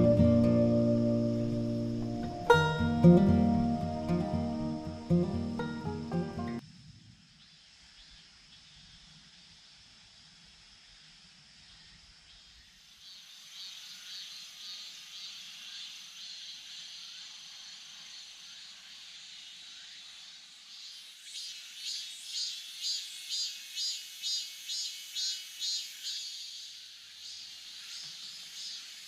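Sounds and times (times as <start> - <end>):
insects calling: 0.0 - 29.0
loud pulsing insect call: 0.0 - 29.0
pulsing high-pitched insect trill: 0.0 - 29.0.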